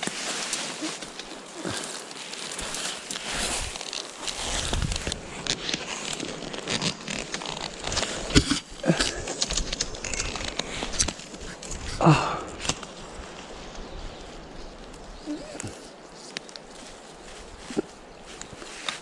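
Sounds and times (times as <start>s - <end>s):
branches and undergrowth rustling: 0.0s - 19.0s
twigs snapping: 0.0s - 19.0s.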